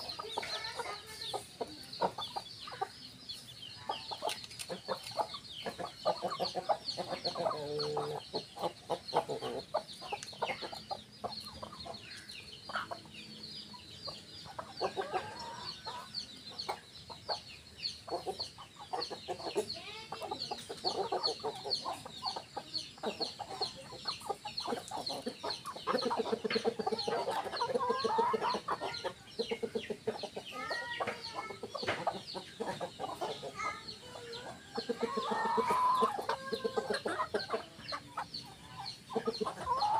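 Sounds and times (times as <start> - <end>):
chickens clucking: 0.0 - 39.9
steady high chirping: 0.0 - 39.9.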